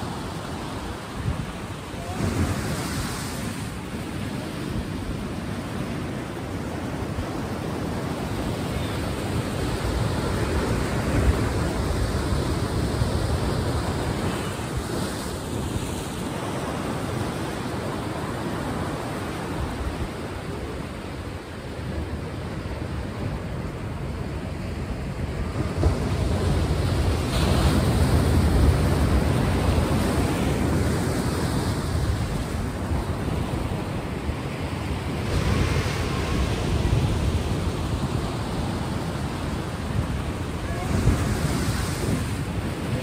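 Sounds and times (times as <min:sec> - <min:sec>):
ocean waves washing in: 0:00.0 - 0:43.0.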